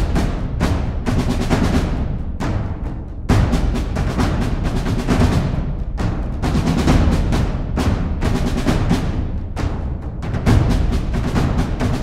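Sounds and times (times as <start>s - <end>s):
war drums beating: 0.0s - 12.0s.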